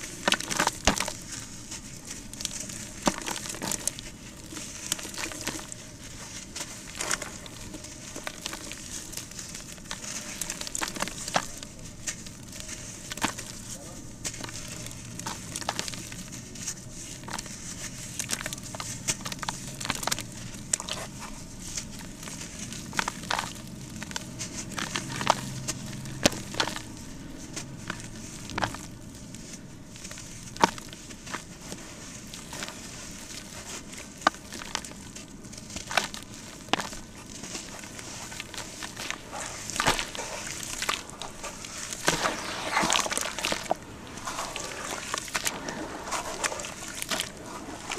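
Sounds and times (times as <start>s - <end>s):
cement lumps crunching: 0.0s - 47.9s.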